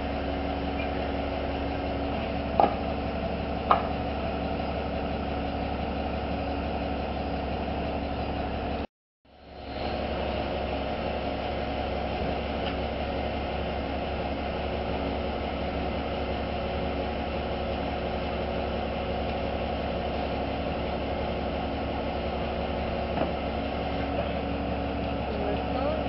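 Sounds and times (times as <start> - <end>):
crane diesel engine running: 0.0 - 26.0.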